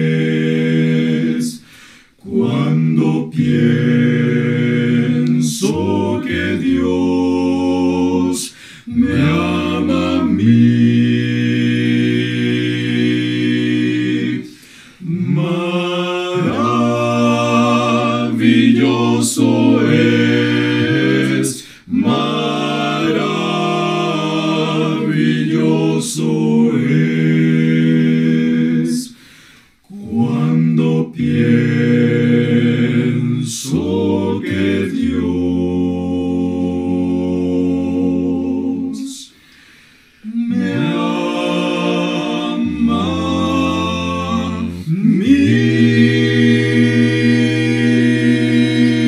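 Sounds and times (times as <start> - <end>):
male vocal quartet singing a hymn: 0.0 - 49.0.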